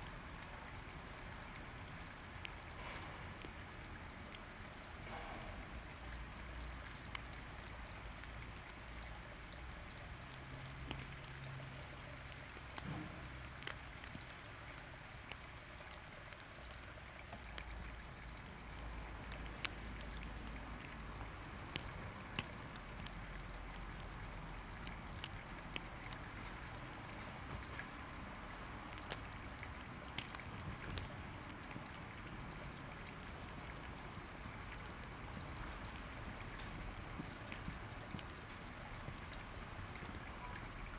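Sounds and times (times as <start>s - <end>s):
faint ticks: 1.4s - 40.9s.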